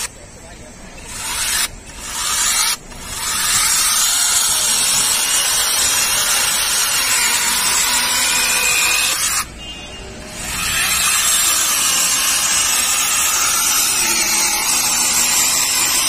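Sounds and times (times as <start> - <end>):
mini chainsaw cutting log: 1.1 - 9.5, 10.2 - 16.0.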